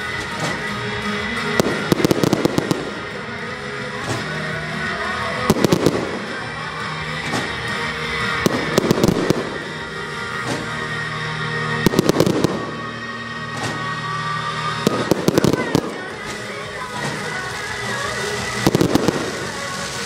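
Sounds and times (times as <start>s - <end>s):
fireworks bursting: 0.0s - 20.0s
music: 0.0s - 20.0s.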